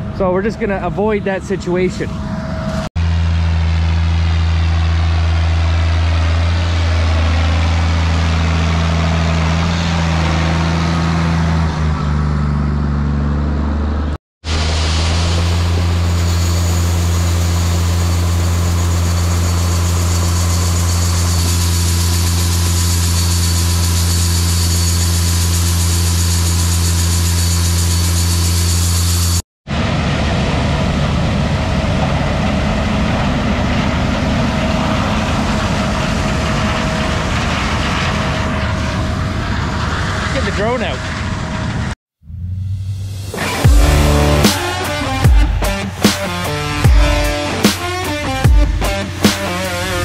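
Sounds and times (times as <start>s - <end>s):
diesel engine drone: 0.0s - 50.0s.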